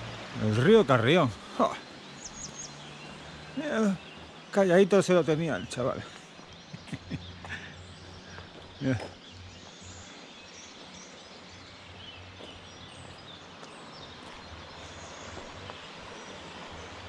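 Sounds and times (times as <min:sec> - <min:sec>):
bird chirps: 0:00.0 - 0:17.0
outdoor background hiss: 0:00.0 - 0:17.0.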